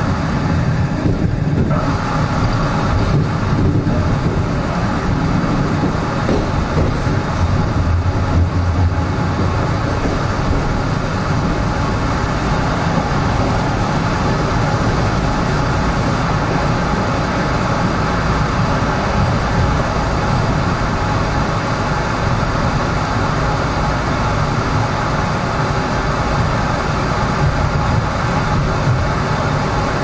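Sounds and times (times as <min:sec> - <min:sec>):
passing train rushing by: 0:00.0 - 0:30.0
subway train rumbling in tunnel: 0:00.0 - 0:30.0.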